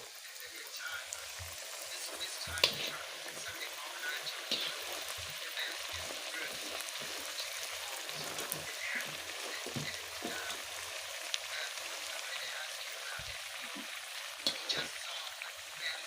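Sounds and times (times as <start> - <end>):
dough sizzling in hot oil: 0.0 - 16.0.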